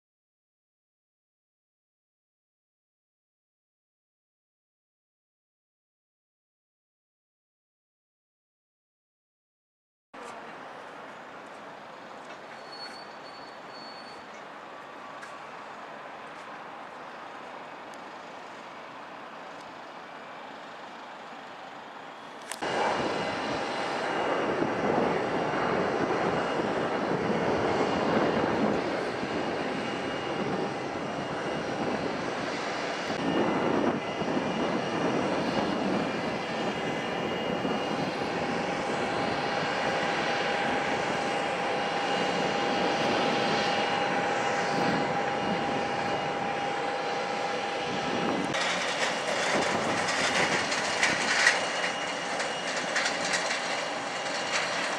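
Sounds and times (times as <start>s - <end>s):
airliner engines roaring: 10.2s - 54.9s.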